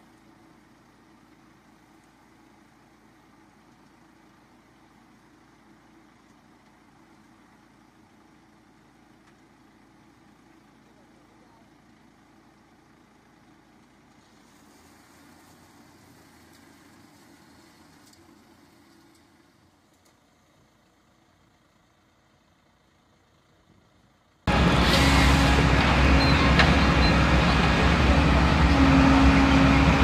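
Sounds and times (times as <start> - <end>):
faint tractor engine running: 0.0 - 30.0.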